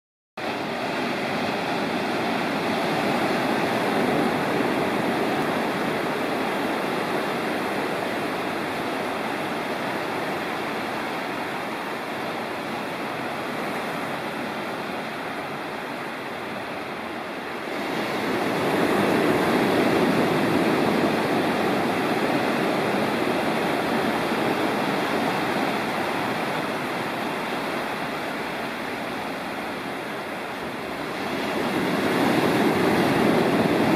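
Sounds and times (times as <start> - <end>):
sea surf breaking on pebbly shore: 0.4 - 33.9.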